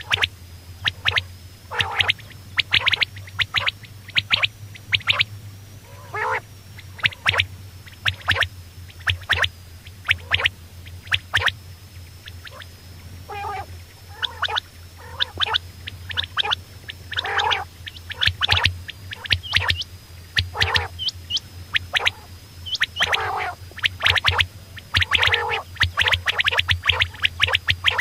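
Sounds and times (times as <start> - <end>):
quail chirping: 0.0 - 11.6, 12.2 - 12.7, 13.3 - 28.0
quail raspy bubbling calls: 0.0 - 28.0.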